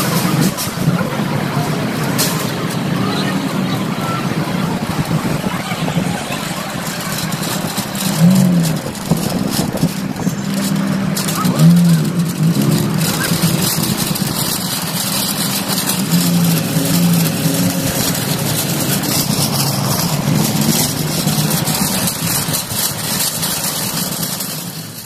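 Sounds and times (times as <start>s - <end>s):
low car engine hum: 0.0s - 25.0s
shopping cart rattling over asphalt: 0.0s - 25.0s.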